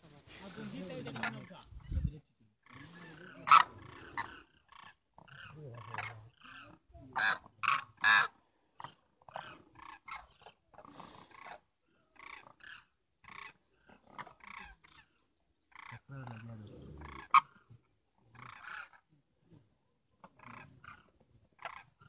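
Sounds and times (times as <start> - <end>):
cranes calling: 2.7 - 19.2, 20.2 - 22.0.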